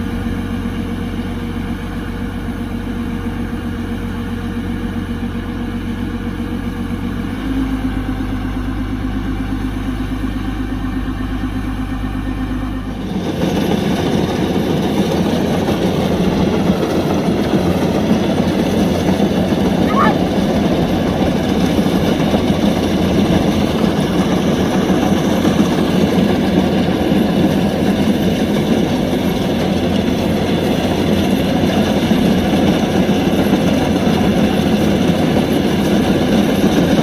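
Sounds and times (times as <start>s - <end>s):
combine harvester engine running: 0.0s - 37.0s.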